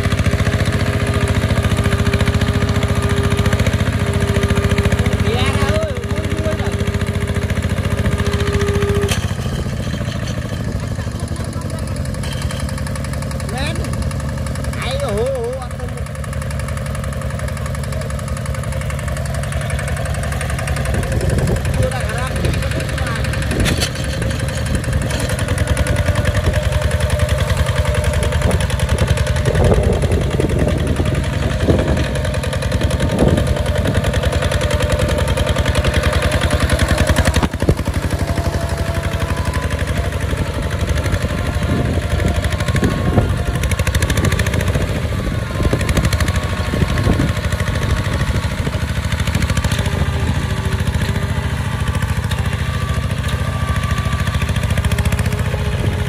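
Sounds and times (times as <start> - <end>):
diesel tractor engine chugging: 0.0 - 56.0.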